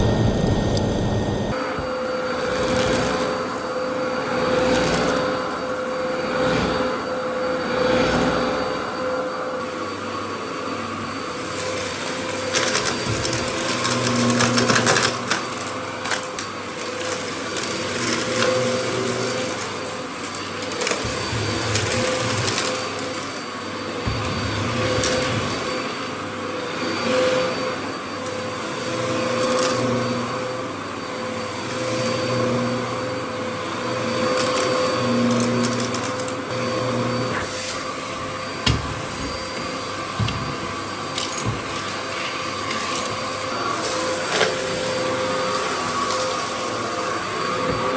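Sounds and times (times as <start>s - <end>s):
vacuum cleaner motor whine: 0.0s - 47.9s.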